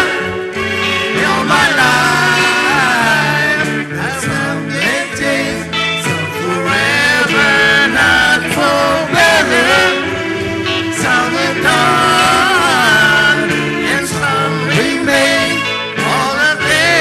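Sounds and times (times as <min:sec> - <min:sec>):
singing with instruments: 0:00.0 - 0:17.0.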